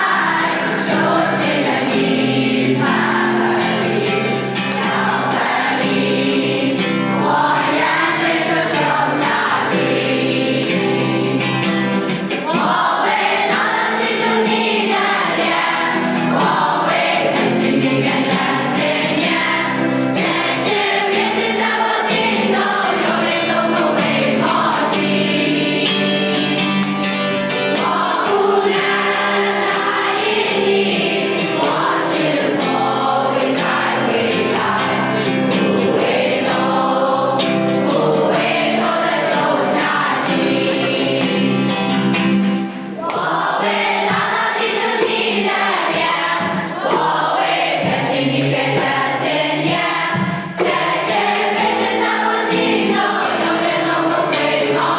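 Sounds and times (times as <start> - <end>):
choir singing with backing music: 0.0 - 54.9.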